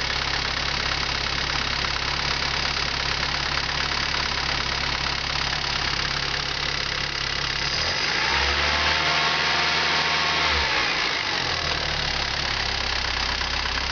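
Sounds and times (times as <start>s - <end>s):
car engine idling with clatter: 0.0s - 8.4s, 11.0s - 13.9s.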